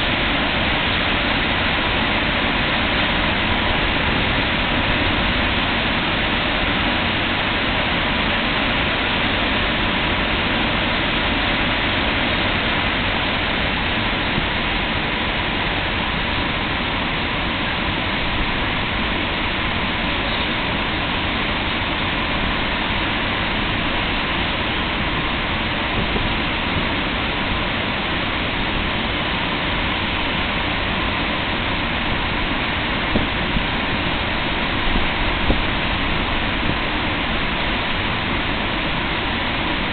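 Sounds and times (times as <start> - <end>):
locomotive cooling blowers running: 0.0 - 39.9.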